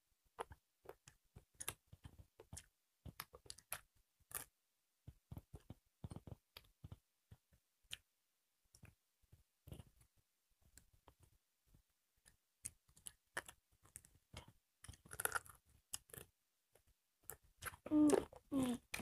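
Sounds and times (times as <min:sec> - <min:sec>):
people chewing and smacking: 0:00.4 - 0:08.1, 0:10.7 - 0:19.0.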